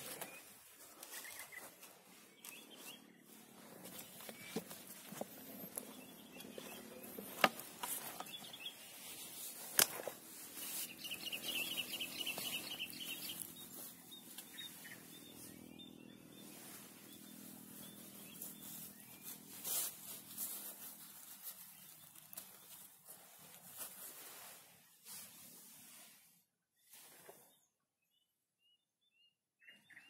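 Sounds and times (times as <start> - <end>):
faint field ambience: 0.0 - 27.6.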